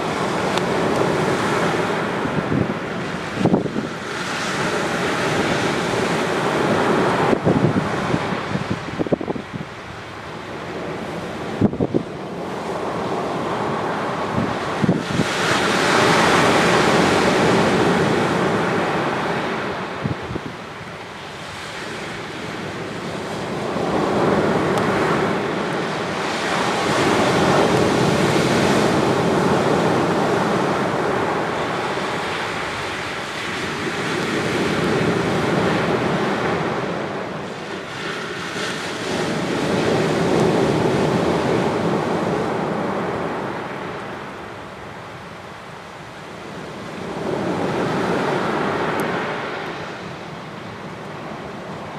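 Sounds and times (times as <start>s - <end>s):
ocean waves breaking on beach: 0.0s - 51.9s.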